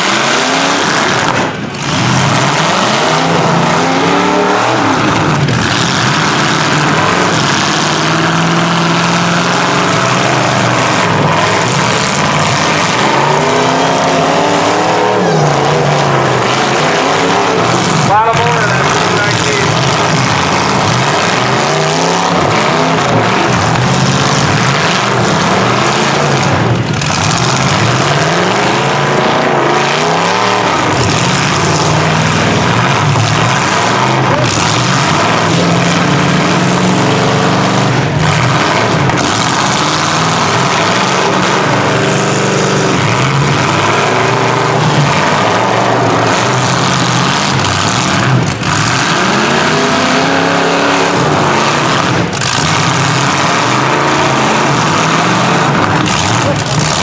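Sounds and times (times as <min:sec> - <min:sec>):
engines revving hard: 0:00.0 - 0:57.0.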